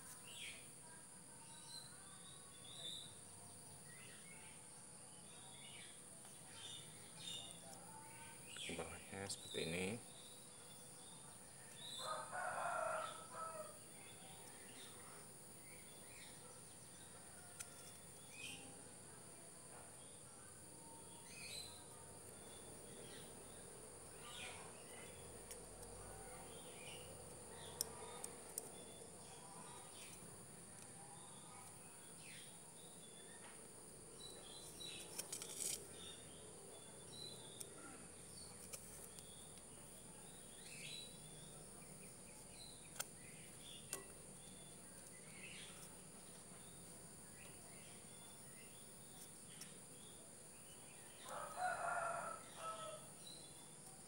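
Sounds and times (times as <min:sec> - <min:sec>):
faint bird chirps: 0:00.0 - 0:54.0
high insect drone: 0:06.7 - 0:54.0.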